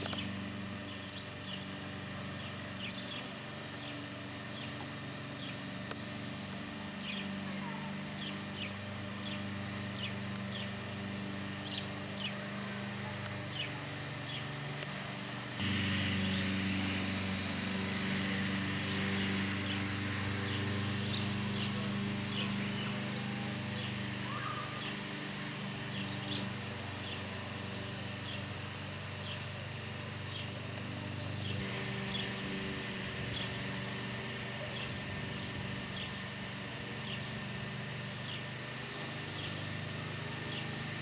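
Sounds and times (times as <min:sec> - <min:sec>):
low motor hum: 0:00.0 - 0:41.0
small birds chirping: 0:00.0 - 0:41.0.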